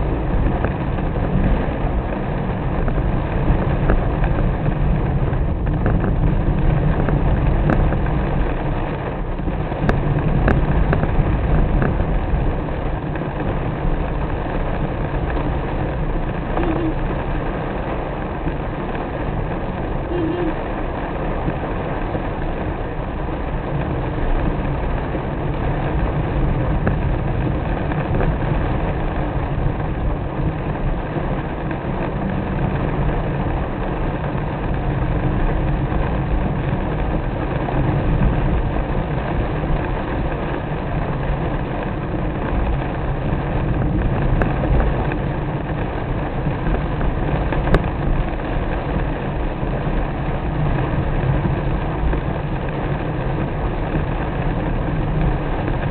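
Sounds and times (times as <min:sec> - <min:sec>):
car engine and road rumble: 0:00.0 - 0:55.9
rain: 0:00.0 - 0:55.9.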